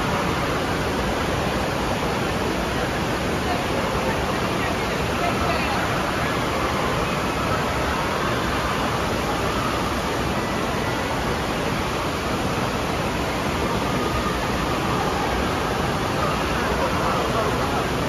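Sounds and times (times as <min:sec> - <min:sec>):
water rushing into pool: 0:00.0 - 0:18.0.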